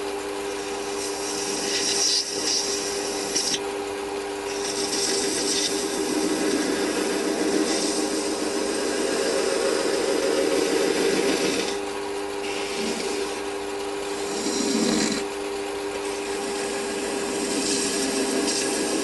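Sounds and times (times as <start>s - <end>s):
lathe motor humming: 0.0s - 19.0s
tool rasping on spinning workpiece: 0.6s - 3.6s, 4.4s - 15.3s, 16.0s - 19.0s.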